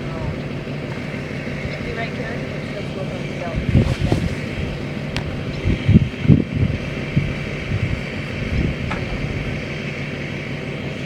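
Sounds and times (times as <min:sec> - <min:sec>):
engine running steadily: 0:00.0 - 0:11.0
wind buffeting microphone: 0:00.0 - 0:11.0.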